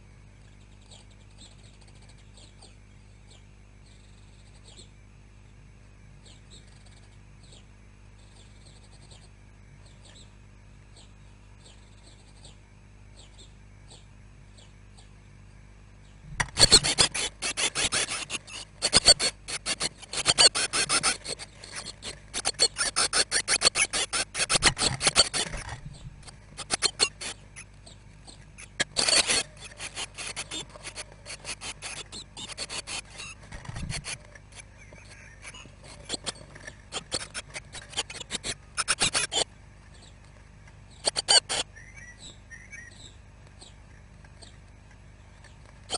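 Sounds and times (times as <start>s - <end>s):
nestlings begging chatter: 0.4s - 5.0s, 6.2s - 15.2s, 16.0s - 40.2s, 40.8s - 45.9s.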